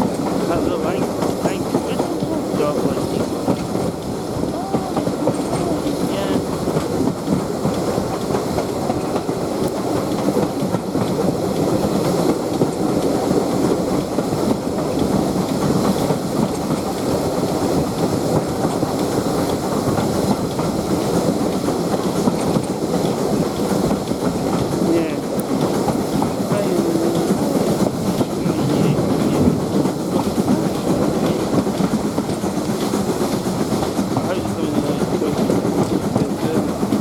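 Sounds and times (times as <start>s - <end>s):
train wheels rumbling on track: 0.0s - 37.0s
wheels clicking over rail joints: 0.0s - 37.0s.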